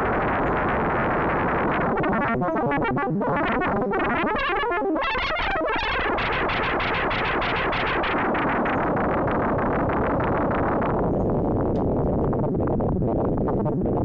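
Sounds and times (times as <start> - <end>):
chaotic noisy synthesizer tone: 0.0 - 14.0.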